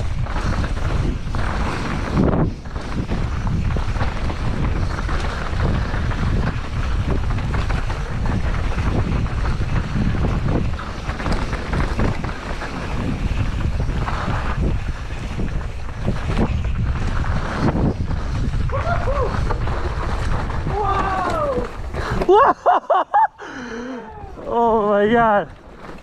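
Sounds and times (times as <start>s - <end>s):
wind buffeting microphone: 0.0s - 22.7s.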